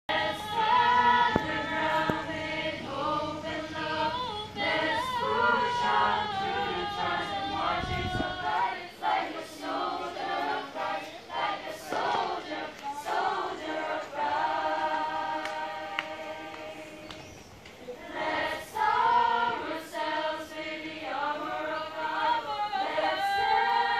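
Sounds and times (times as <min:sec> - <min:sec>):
choir singing: 0:00.1 - 0:23.9.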